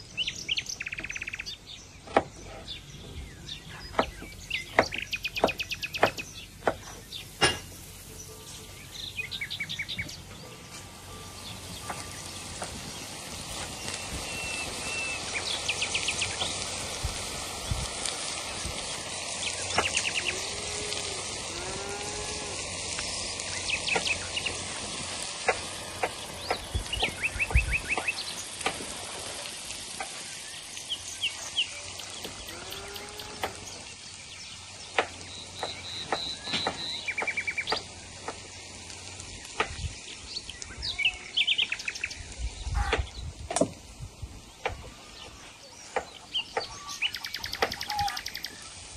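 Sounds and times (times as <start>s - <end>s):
cabbage sizzling in a pan: 0.0s - 48.9s
small birds chirping: 0.0s - 48.9s.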